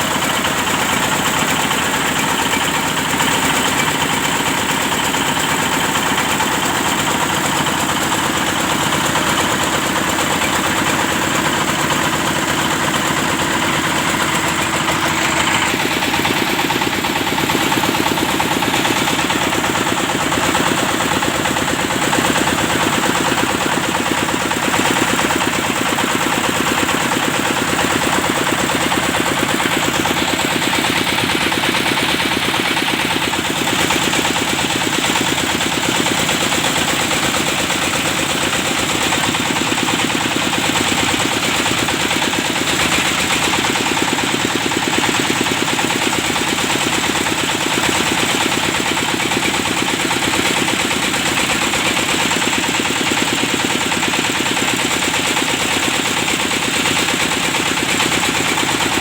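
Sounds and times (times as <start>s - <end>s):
drilling machine engine pulsing: 0.0s - 59.0s.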